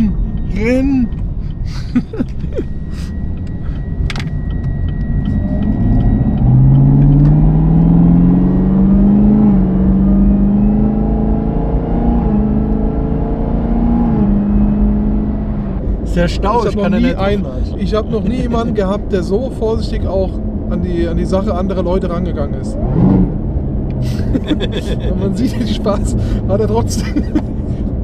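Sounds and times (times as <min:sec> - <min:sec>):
car engine accelerating hard: 0:00.0 - 0:28.0.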